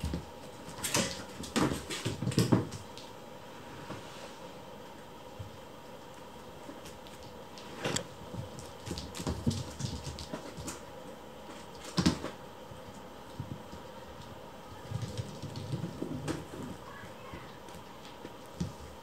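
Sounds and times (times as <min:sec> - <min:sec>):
kittens thumping and scuffling: 0:00.0 - 0:04.1, 0:06.6 - 0:19.0
paws scrabbling on floor: 0:00.0 - 0:04.2, 0:04.8 - 0:19.0.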